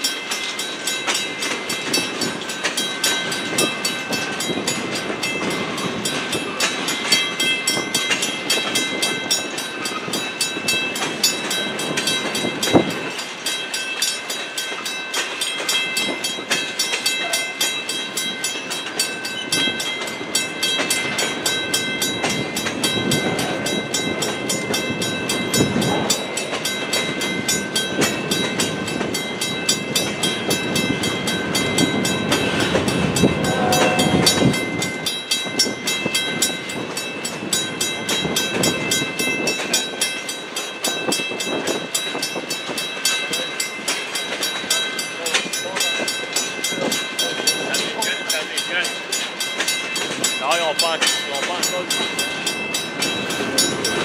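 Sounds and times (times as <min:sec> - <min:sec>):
crossing warning bell ringing: 0:00.0 - 0:54.0
freight train rumbling past: 0:00.0 - 0:54.0
wheels clanking over rail joints: 0:00.0 - 0:54.0.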